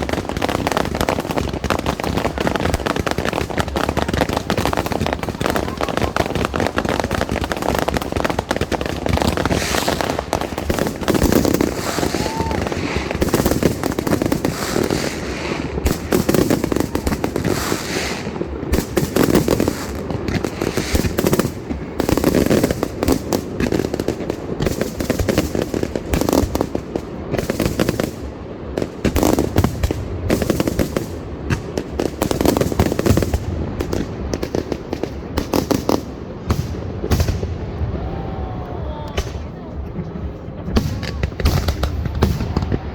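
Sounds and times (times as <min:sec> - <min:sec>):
fireworks crackling barrage: 0:00.0 - 0:42.9.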